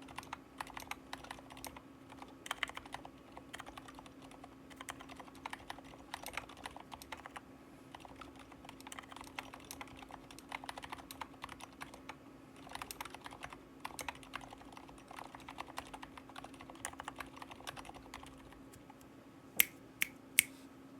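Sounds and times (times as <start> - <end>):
quiet mechanical keyboard typing: 0.0 - 19.0.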